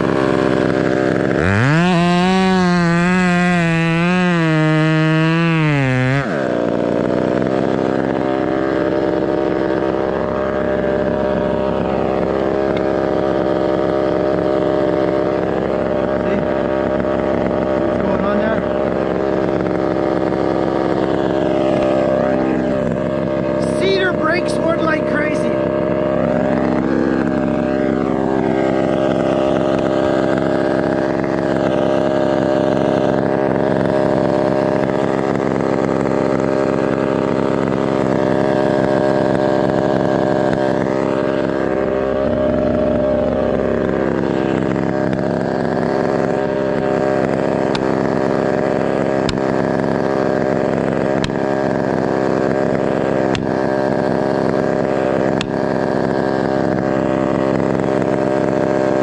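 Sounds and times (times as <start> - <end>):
chainsaw engine running: 0.0 - 59.0.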